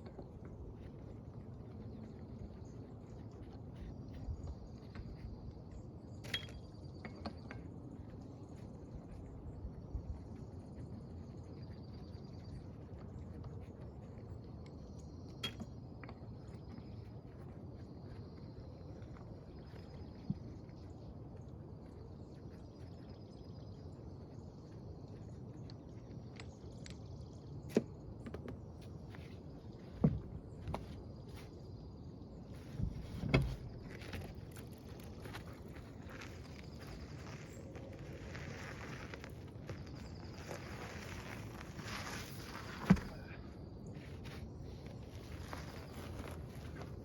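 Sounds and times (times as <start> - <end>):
outdoor background noise: 0.0 - 47.0.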